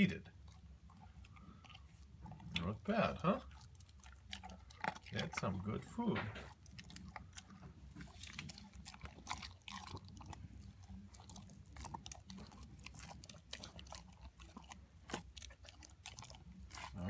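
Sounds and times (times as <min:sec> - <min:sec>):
dog chewing and licking: 0:00.0 - 0:17.0.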